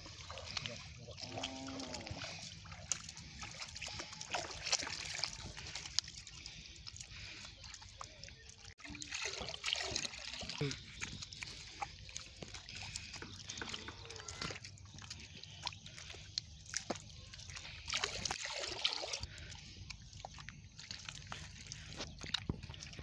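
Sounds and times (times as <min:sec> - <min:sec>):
bare feet splashing through mud: 0:00.0 - 0:23.0.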